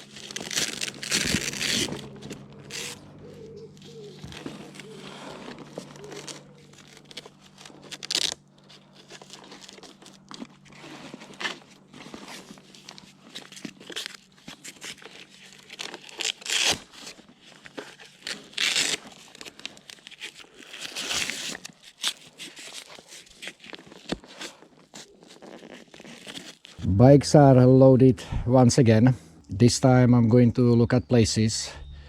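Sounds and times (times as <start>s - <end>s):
faint steady hum: 0.0s - 25.7s, 26.6s - 32.0s
material rustling and crinkling: 0.0s - 26.8s.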